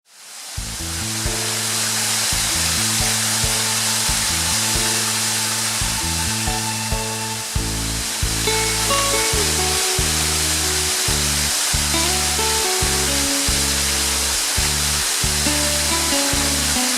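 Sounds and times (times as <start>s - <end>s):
waterfall rushing: 0.1s - 16.9s
background music: 0.6s - 16.9s.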